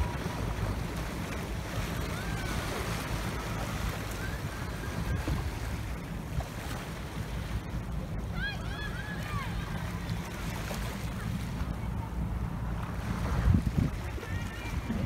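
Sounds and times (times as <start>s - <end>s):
distant boat engines: 0.0s - 15.0s
river water: 0.0s - 15.0s
wind rumbling on microphone: 0.0s - 15.0s.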